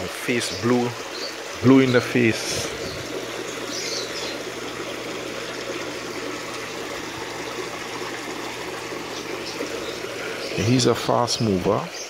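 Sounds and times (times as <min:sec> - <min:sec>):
water trickling in a pond: 0:00.0 - 0:12.0.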